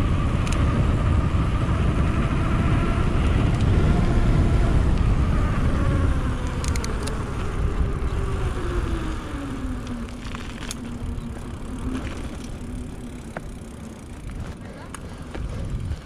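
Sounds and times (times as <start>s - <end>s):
bike freehub buzzing: 0.0s - 16.0s
wind rumble on microphone: 0.0s - 16.0s.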